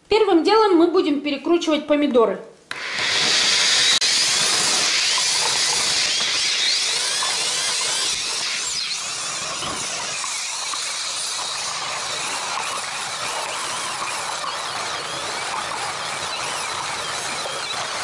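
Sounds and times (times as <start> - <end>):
electric meat grinder running: 2.7 - 18.0.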